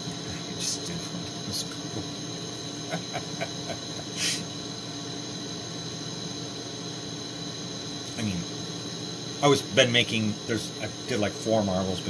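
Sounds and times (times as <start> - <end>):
torch hissing: 0.0 - 12.0.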